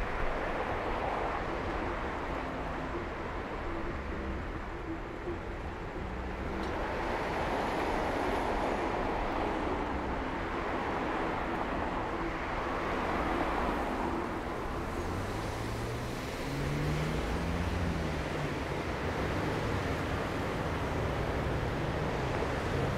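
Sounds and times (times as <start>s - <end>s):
car engines: 0.0s - 22.9s
cars pulling away: 0.0s - 22.9s.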